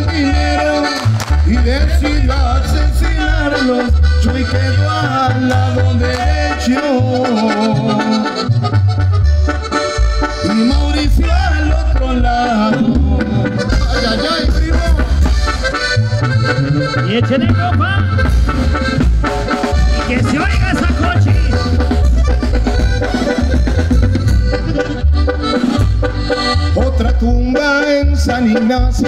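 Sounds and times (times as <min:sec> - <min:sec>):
brass band playing dance tune: 0:00.0 - 0:29.0.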